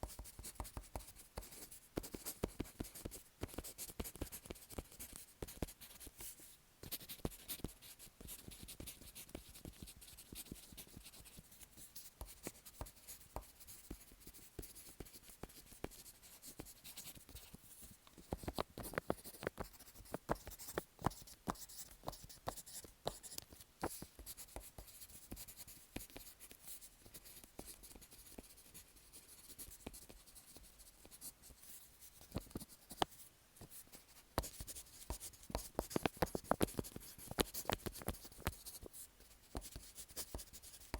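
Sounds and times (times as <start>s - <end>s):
pen scratching on paper: 7.0s - 40.9s.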